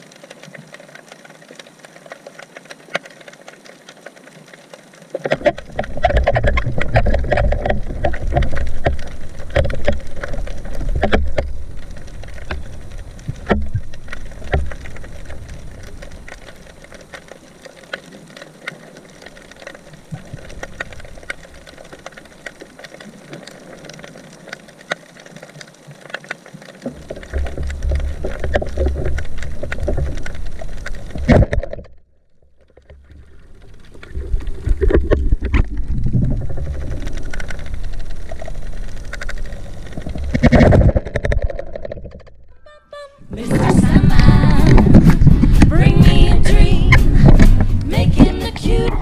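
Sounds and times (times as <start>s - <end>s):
low rushing rumble of water: 0.0s - 42.5s, 43.2s - 49.0s
underwater crackle of clicks: 0.0s - 42.5s.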